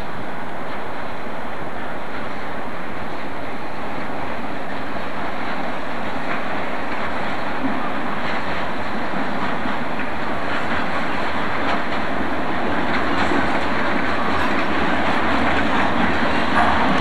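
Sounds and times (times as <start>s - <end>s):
locomotive engines rumbling: 0.0s - 17.0s
train wheels rolling: 0.0s - 17.0s
wheels clicking over rail joints: 0.0s - 17.0s.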